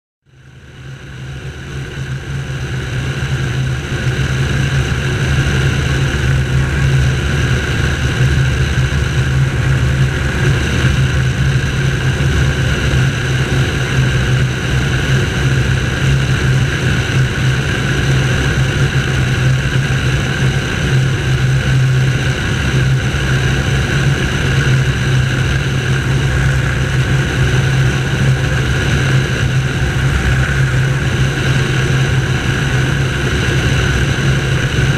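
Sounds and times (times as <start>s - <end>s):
aircraft engine and propeller droning: 0.3s - 34.9s.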